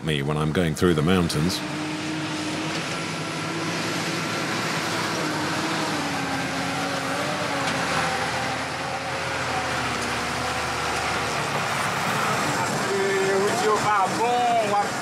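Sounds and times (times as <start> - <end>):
bus engine running under load: 0.0 - 15.0.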